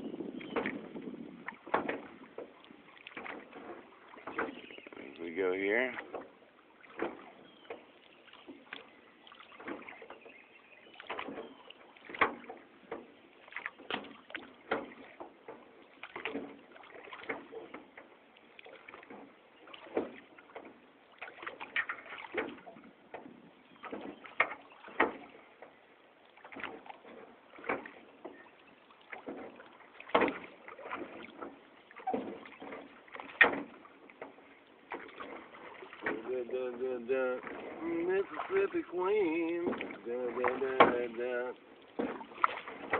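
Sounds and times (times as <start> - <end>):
paddles knocking boat hull: 0.0 - 42.9
paddles splashing in water: 0.0 - 42.9.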